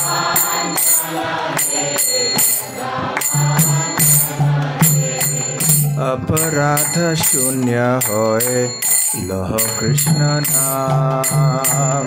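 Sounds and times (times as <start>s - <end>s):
hand cymbals struck: 0.0s - 12.0s
people singing: 0.0s - 12.0s.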